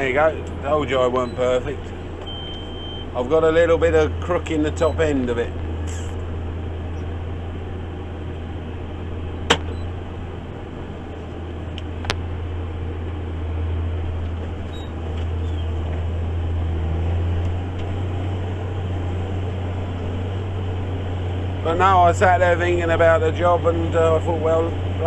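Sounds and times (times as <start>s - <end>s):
tractor engine drone: 0.0s - 25.0s.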